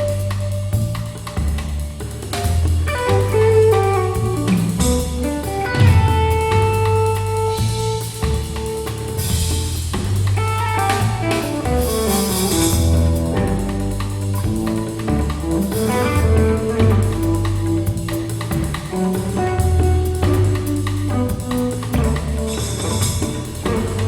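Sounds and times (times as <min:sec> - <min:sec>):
instrumental music with bass drums and guitar: 0:00.0 - 0:24.0.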